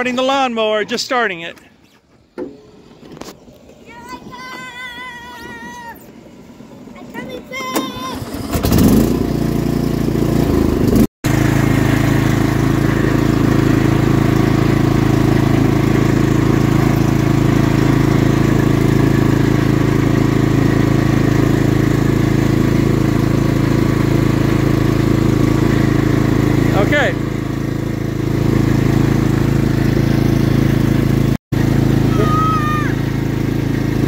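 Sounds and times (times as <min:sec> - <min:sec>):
riding lawn mower engine: 0:00.0 - 0:34.0.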